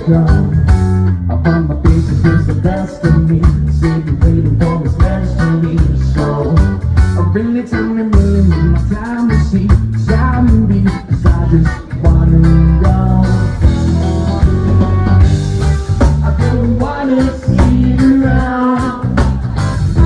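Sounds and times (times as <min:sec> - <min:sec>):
man singing: 0:00.0 - 0:14.7, 0:15.6 - 0:20.0
live rock band playing: 0:00.0 - 0:20.0.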